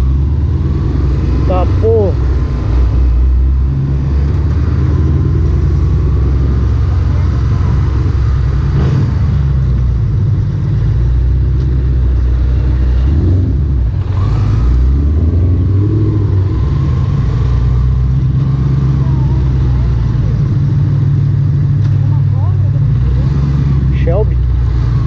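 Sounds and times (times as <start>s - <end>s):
car engine running: 0.0s - 25.0s
motorcycle engine rumble: 0.0s - 25.0s.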